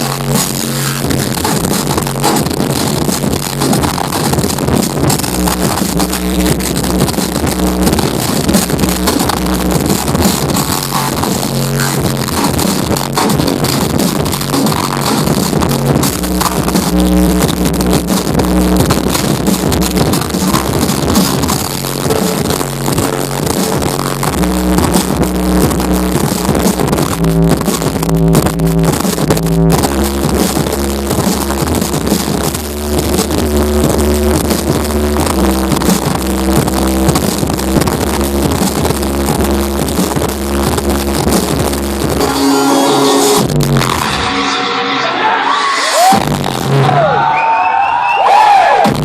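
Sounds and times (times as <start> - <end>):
loud electronic dance music: 0.0 - 49.0.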